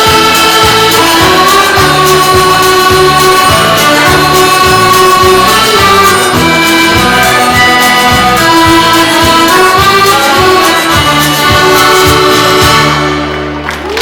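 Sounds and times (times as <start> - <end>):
live band playing ballad: 0.0 - 14.0.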